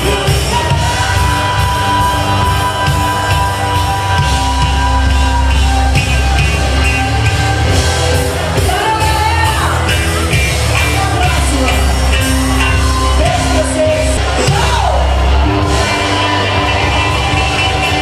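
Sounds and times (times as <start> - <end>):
band music with singing: 0.0 - 18.0
crowd yelling: 0.0 - 18.0.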